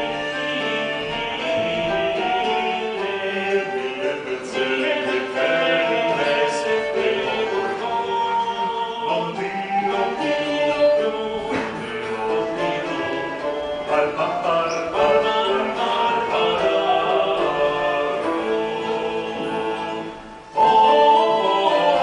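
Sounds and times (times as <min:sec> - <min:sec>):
fiddle and plucked strings melody: 0:00.0 - 0:22.0.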